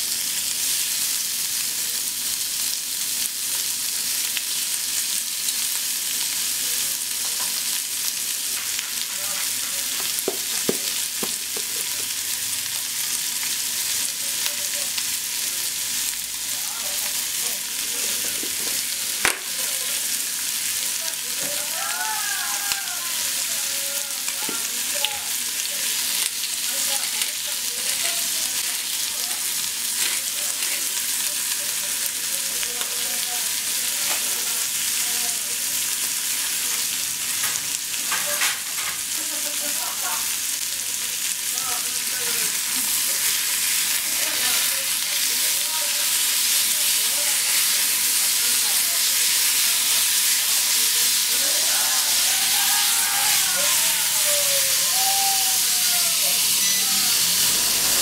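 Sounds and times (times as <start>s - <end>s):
beef sizzling in a pan: 0.0s - 58.0s.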